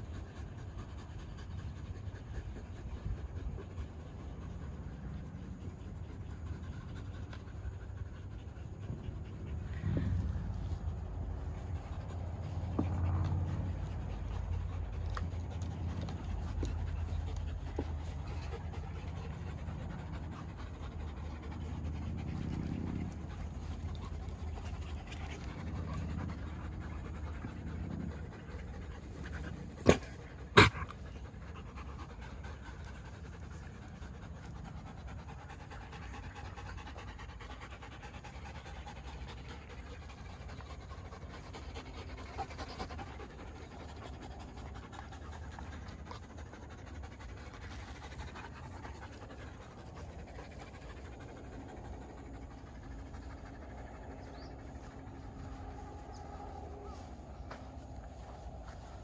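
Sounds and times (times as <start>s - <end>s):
dogs panting: 0.0s - 59.0s.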